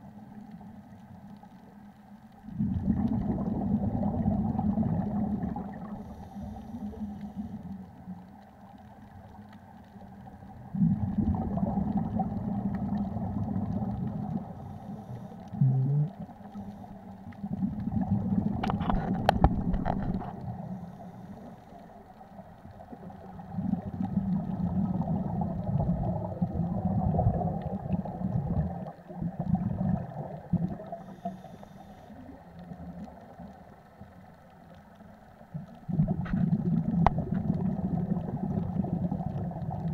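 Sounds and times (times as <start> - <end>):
underwater exhaled bubbles gurgling: 0.0 - 39.9.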